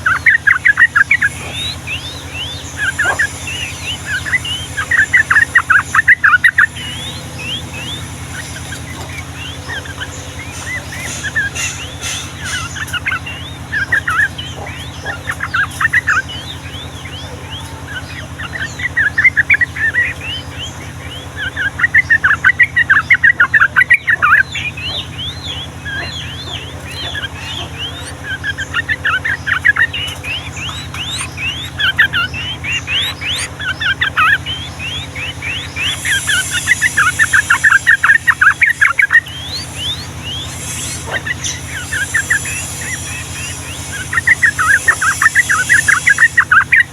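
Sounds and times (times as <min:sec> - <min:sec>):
bulbuls singing: 0:00.0 - 0:46.9
low hum: 0:00.0 - 0:46.9.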